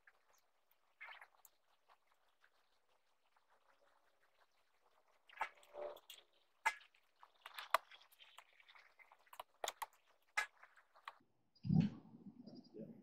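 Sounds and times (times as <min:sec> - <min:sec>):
wood fire crackling: 0:00.0 - 0:11.2.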